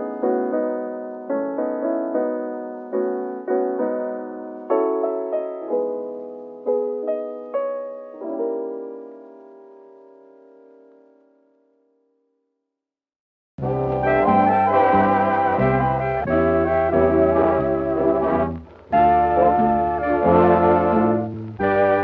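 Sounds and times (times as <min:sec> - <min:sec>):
gentle piano music: 0:00.0 - 0:12.3, 0:13.6 - 0:22.0.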